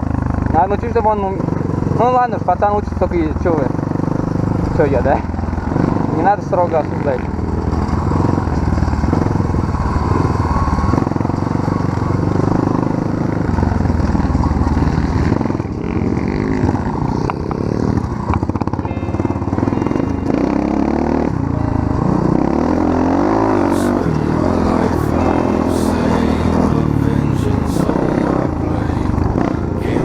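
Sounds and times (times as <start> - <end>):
small off-road engine revving: 0.0 - 30.0.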